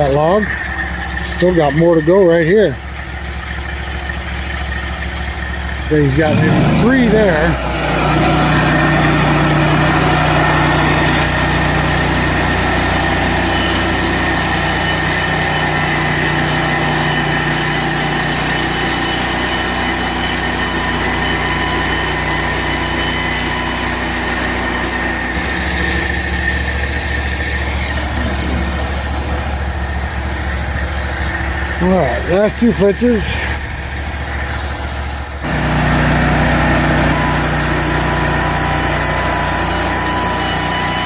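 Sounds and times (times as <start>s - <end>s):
band sawmill running: 0.0s - 41.0s.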